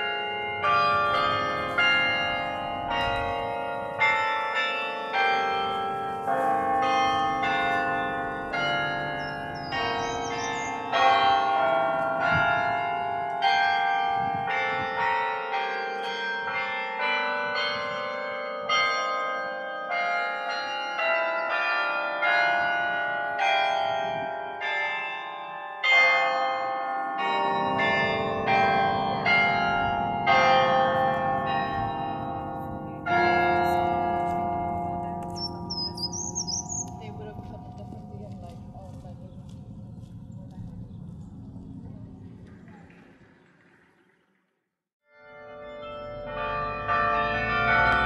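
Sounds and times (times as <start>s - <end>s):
carillon bells melody: 0.0s - 38.3s, 45.1s - 48.0s.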